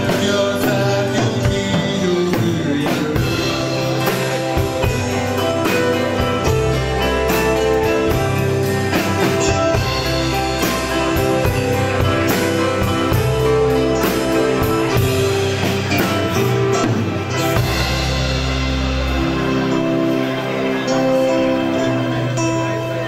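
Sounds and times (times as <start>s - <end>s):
drum kit beat: 0.0s - 21.7s
bass: 0.0s - 23.0s
electronic keyboard chords: 0.0s - 23.0s
guitar: 0.0s - 23.0s.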